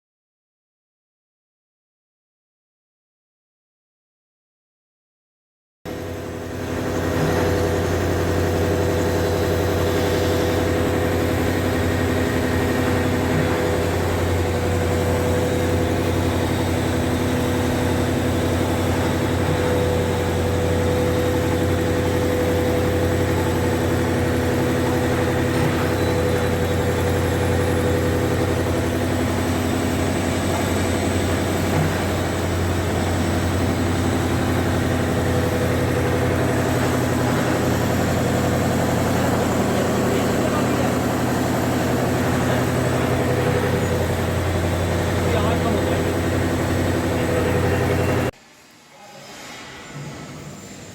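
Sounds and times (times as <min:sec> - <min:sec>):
electric furnace humming: 0:05.9 - 0:50.9.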